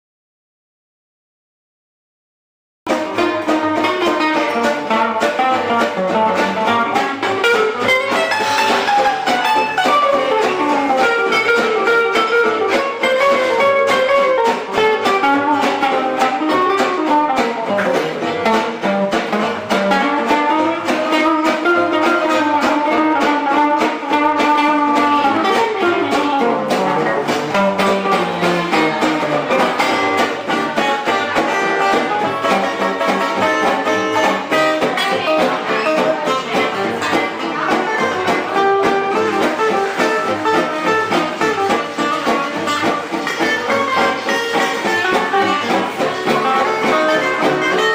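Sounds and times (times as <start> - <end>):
plucked guitar: 2.9 - 47.9.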